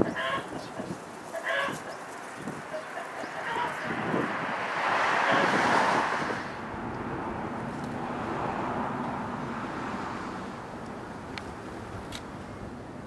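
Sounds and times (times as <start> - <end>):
vehicle passing close by: 0.0 - 12.1
outdoor traffic noise: 0.0 - 13.0.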